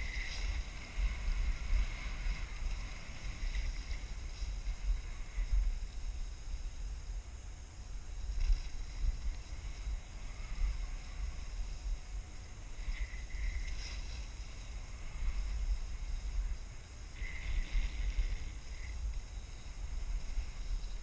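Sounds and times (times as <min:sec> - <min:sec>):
skis scraping over packed snow: 0:00.0 - 0:21.0
wind buffeting microphone: 0:00.0 - 0:21.0.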